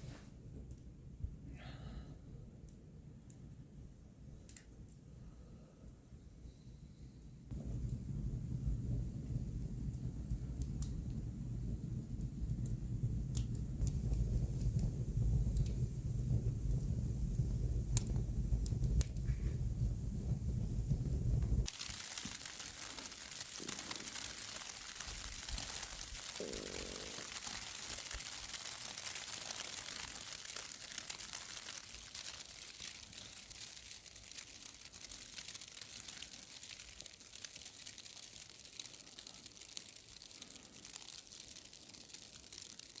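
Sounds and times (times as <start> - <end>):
dense crackling of tiny clicks: 4.4 - 5.0, 7.5 - 43.0.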